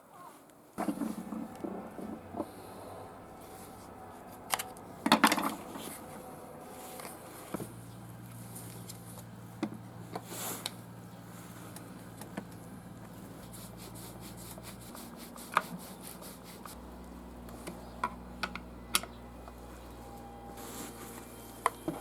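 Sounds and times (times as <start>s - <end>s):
faint steady hum: 0.1s - 22.0s.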